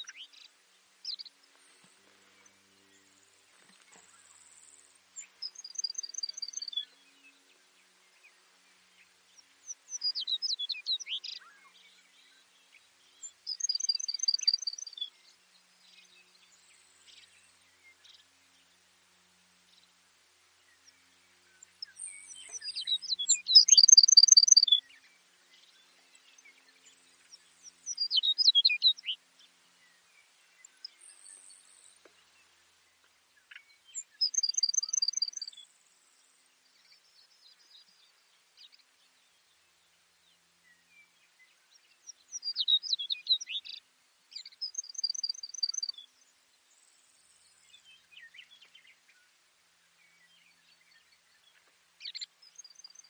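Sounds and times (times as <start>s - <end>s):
sparrow singing trills: 0.0s - 18.8s, 20.6s - 32.6s, 33.4s - 49.3s, 50.0s - 53.0s.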